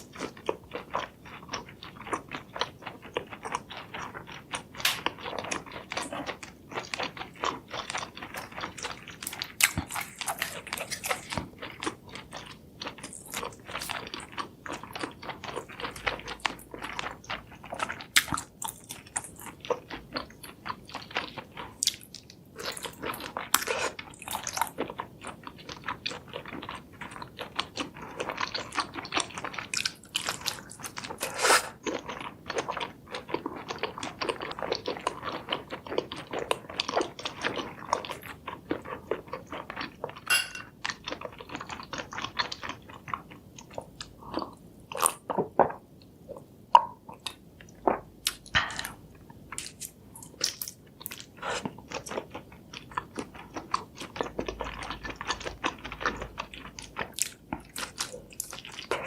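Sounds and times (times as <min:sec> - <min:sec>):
chewing crisp food: 0:00.0 - 0:59.0.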